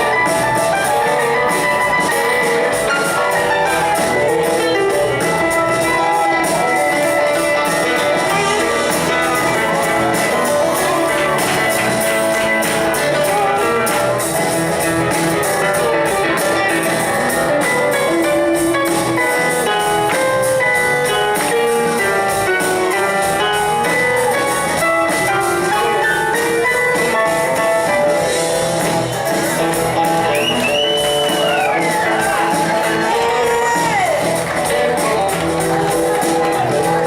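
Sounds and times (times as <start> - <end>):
blues guitar: 0.0 - 37.0
drum kit: 0.0 - 37.0.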